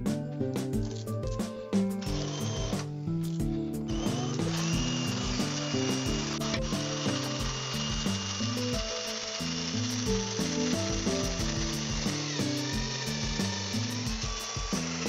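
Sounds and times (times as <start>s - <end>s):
background music with steady beat: 0.0s - 15.0s
cordless drill boring into wood: 2.0s - 2.9s, 3.8s - 15.0s.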